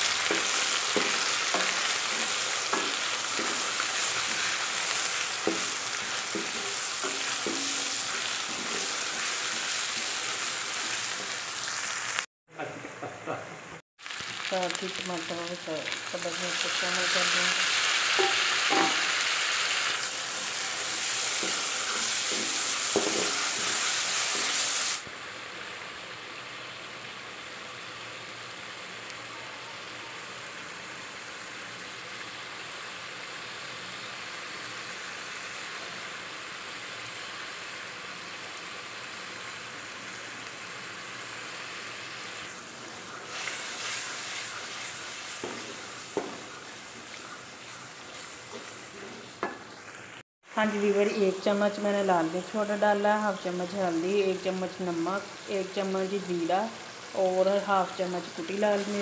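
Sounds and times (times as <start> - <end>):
vegetables sizzling in oil: 0.0 - 12.3, 14.0 - 59.0.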